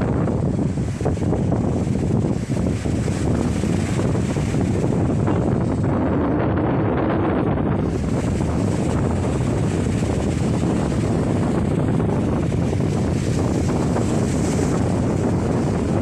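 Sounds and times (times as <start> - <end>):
storm wind on microphone: 0.0 - 16.0.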